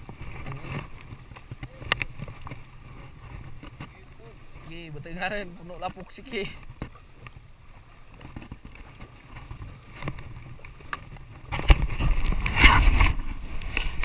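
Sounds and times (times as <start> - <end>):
shallow water sloshing and splashing: 0.0 - 14.0.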